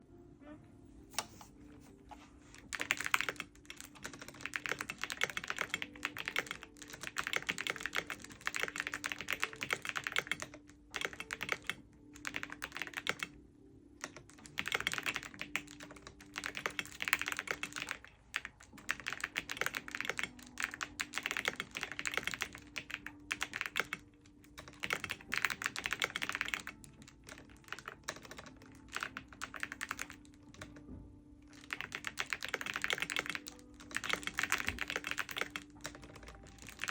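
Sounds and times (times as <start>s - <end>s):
typing on computer keyboard: 2.5s - 13.4s, 14.0s - 36.9s.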